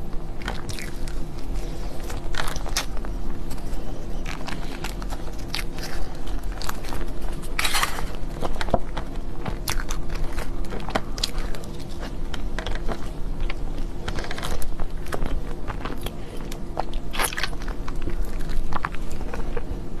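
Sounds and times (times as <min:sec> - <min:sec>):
crunchy chewing: 0:00.0 - 0:20.0.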